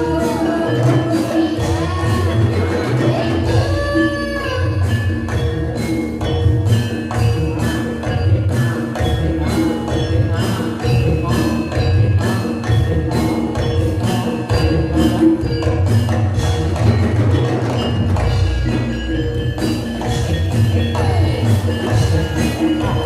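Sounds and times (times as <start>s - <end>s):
gamelan metallophones ringing: 0.0s - 23.0s.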